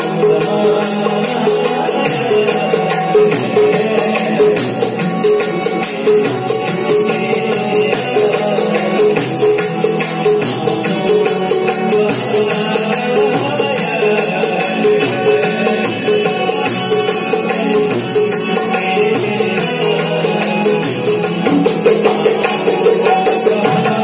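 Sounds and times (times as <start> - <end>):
harmonium and keyboard melody: 0.0 - 24.0
jingling percussion beat: 0.0 - 24.0.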